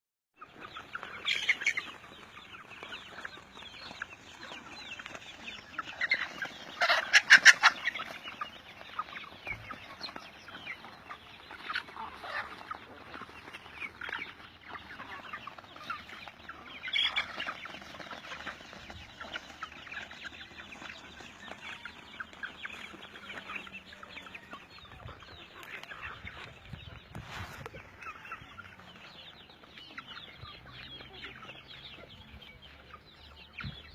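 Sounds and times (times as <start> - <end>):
chickens clucking and cheeping: 0.3 - 33.9
chickens squawking: 0.4 - 33.9.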